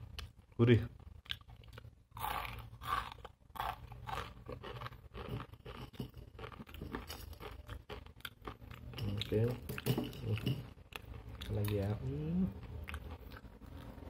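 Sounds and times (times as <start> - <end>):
crunchy noodles being chewed: 1.0 - 9.4, 10.3 - 14.0.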